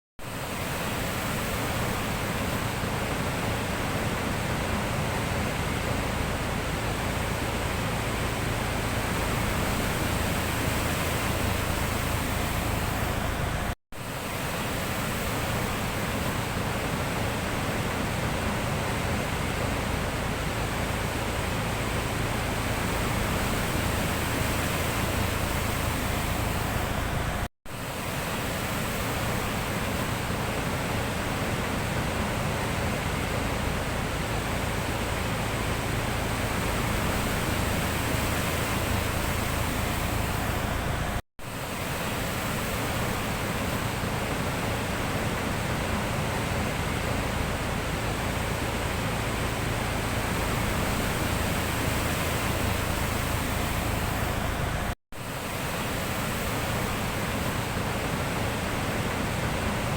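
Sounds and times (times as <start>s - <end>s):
sea surf rushing: 0.2s - 59.9s.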